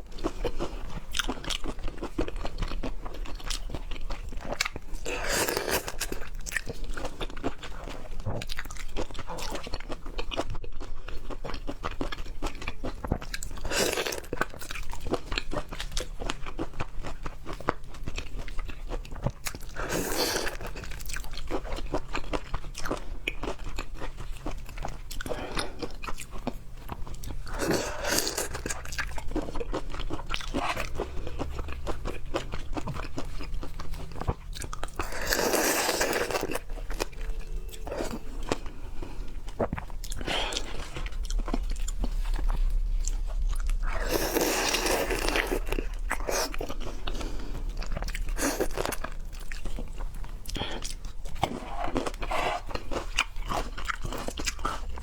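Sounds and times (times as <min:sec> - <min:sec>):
crunchy wet chewing: 0:00.0 - 0:55.0.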